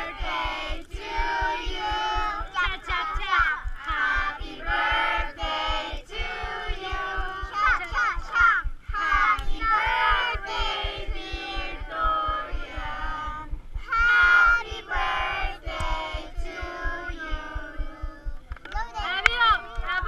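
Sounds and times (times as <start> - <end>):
group singing a celebration song: 0.0 - 18.6.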